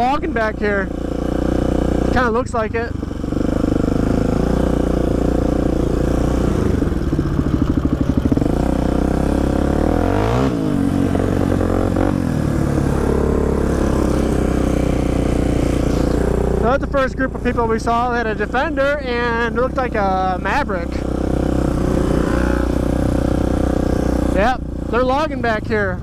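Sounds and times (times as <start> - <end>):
quad engine revving: 0.0 - 26.0.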